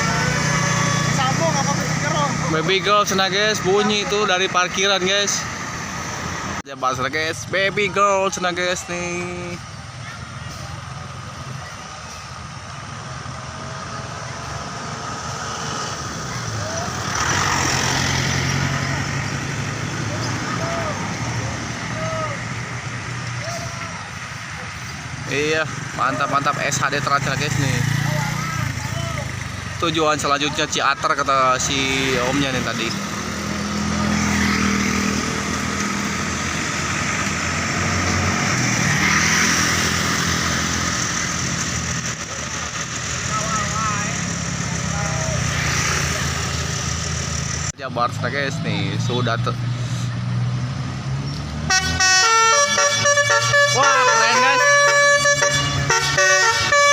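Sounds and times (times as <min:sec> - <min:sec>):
diesel bus engine humming: 0:00.0 - 0:56.9
road noise: 0:00.0 - 0:56.9.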